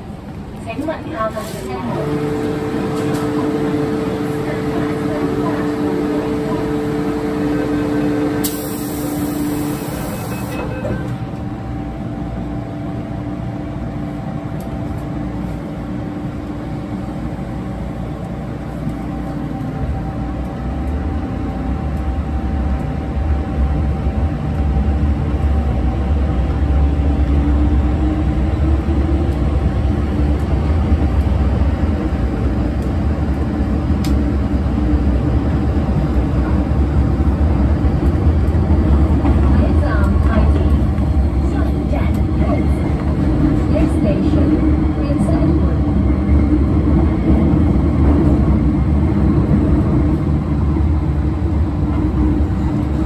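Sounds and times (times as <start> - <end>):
low train rumble: 0.0 - 53.0.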